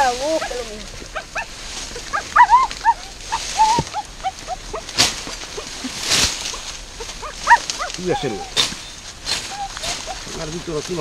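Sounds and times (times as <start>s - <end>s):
dogs yipping and whining: 0.0s - 10.3s
dry grass rustling: 0.0s - 11.0s.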